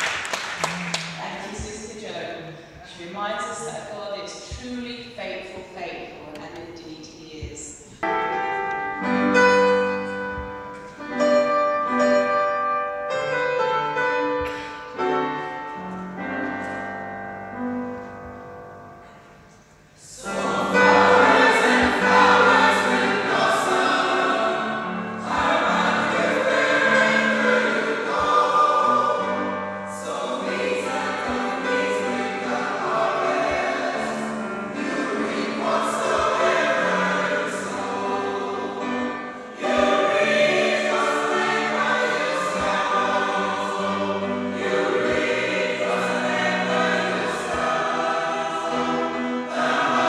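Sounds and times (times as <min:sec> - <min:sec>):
church choir singing: 0:08.0 - 0:50.0.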